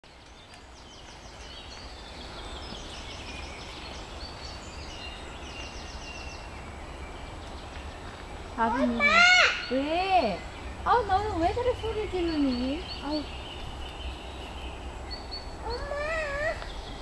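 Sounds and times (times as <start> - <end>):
songbirds trilling: 0.0 - 17.0.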